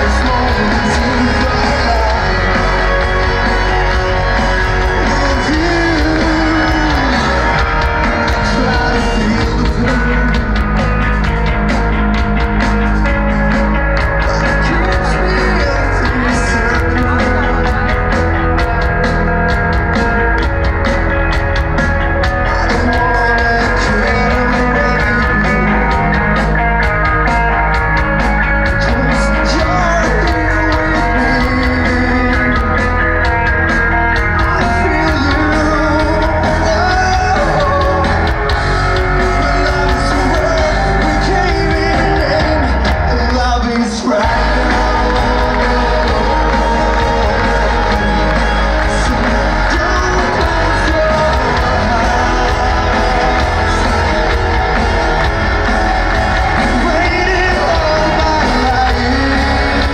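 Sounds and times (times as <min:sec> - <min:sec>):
lead singer: 0:00.0 - 0:59.9
rock band playing live: 0:00.0 - 0:59.9.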